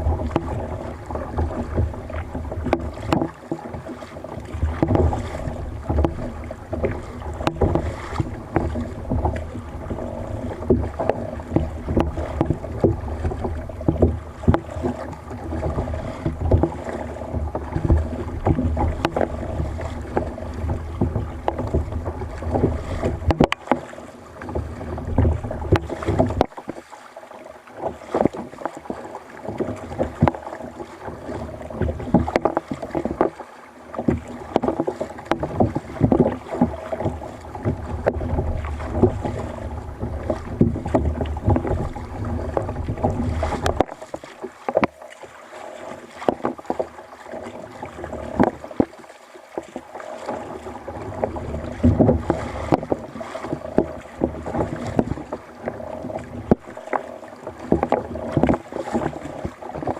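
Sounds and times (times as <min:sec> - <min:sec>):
water splashing and lapping: 0:00.0 - 0:59.9.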